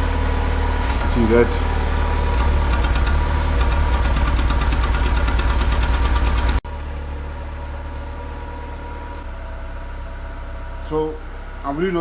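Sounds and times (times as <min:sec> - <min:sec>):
car engine rough idle pulsing: 0:00.0 - 0:12.0.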